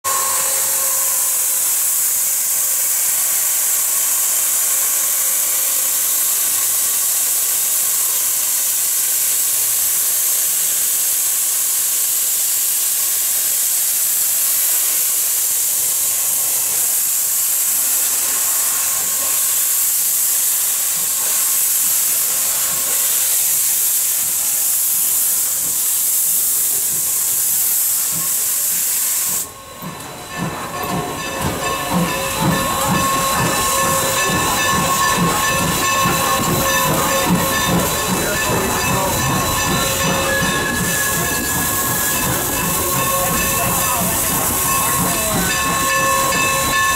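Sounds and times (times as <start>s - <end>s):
steam hissing: 0.0s - 46.9s.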